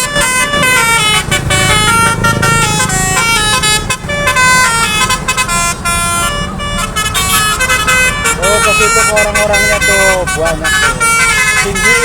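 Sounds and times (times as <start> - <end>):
musical air horn tune: 0.0 - 12.0.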